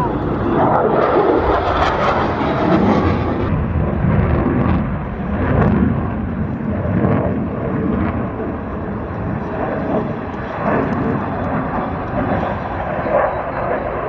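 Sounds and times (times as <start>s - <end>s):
fighter jets rumbling: 0.0s - 14.0s.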